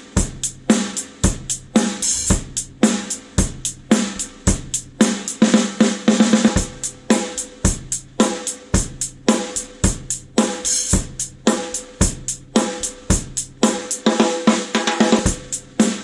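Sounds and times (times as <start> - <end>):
drum kit playing a groove: 0.0 - 16.0.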